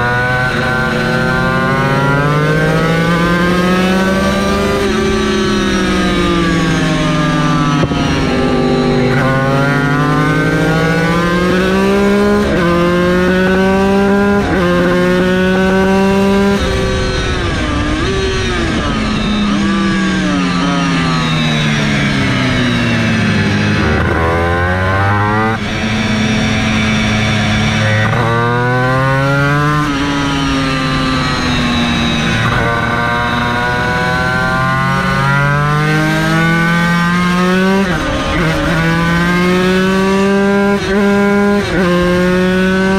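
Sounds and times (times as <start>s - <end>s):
two-stroke racing engine revving: 0.0s - 42.9s.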